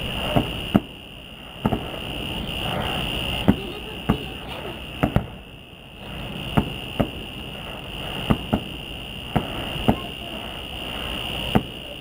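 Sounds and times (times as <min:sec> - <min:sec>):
distant fireworks bangs: 0:00.0 - 0:12.0
steady high-pitched whine: 0:00.0 - 0:12.0.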